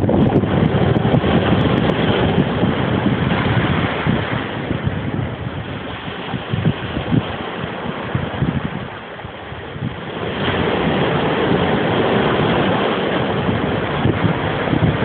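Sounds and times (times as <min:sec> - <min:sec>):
ocean surf breaking over rocks: 0:00.0 - 0:15.0
wind buffeting microphone: 0:00.0 - 0:15.0.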